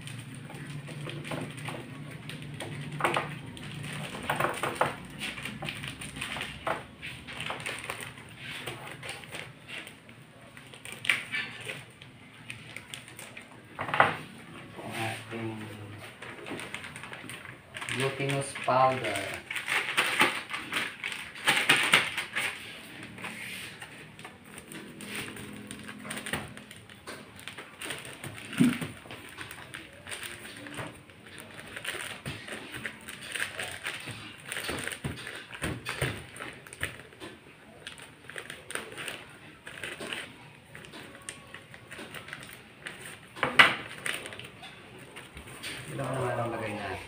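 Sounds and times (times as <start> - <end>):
paper packet rustling: 0.0 - 13.8, 14.8 - 47.0.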